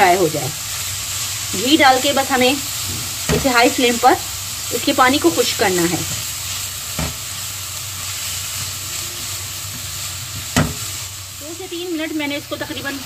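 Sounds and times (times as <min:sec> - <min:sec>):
carrots sizzling in a wok: 0:00.0 - 0:13.0.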